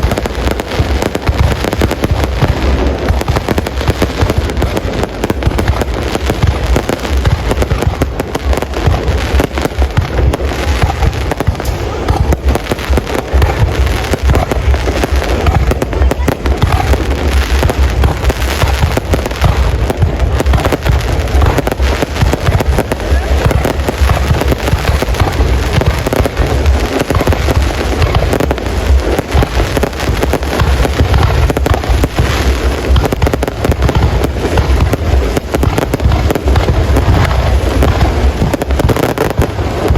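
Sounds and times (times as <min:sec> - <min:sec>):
fireworks booming and crackling: 0:00.0 - 0:39.9
heavy low rumble: 0:00.0 - 0:39.9.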